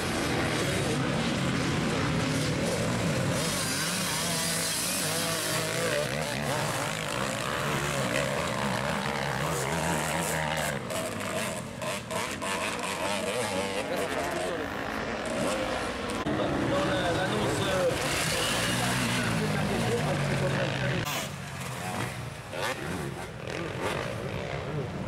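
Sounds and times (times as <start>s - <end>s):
dirt bike engines droning: 0.0s - 25.0s.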